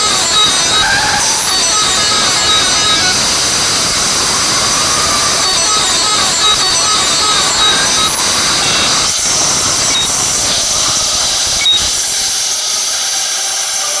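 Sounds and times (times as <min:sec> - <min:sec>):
hissing traffic road noise: 0:00.0 - 0:12.0.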